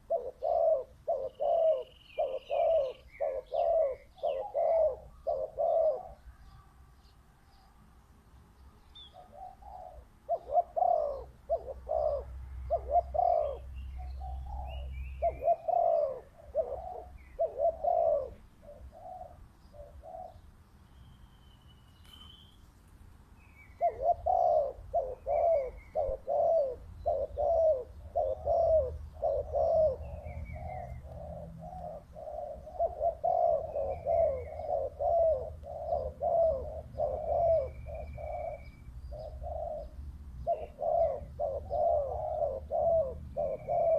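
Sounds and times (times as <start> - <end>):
doves cooing: 0.0 - 6.6, 9.0 - 20.5, 23.6 - 43.9
small birds chirping: 0.0 - 43.9.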